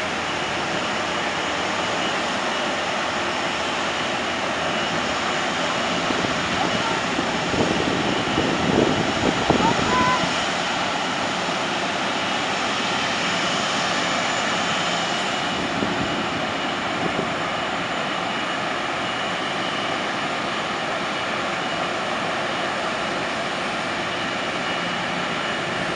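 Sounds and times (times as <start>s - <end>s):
jet engines whining at idle: 0.0s - 25.9s.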